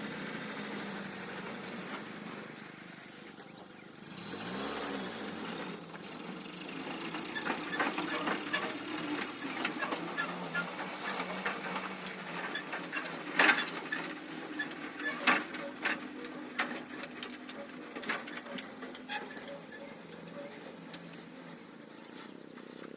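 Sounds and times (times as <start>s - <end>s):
small engine running: 0.0s - 22.9s.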